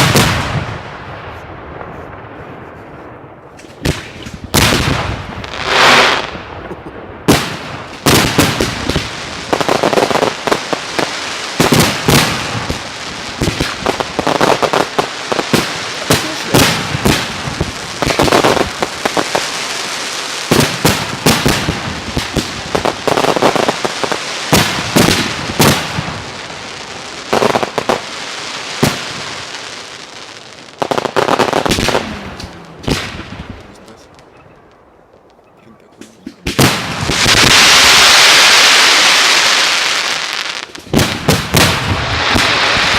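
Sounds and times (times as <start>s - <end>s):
fireworks bangs and crackling: 0.0s - 42.9s.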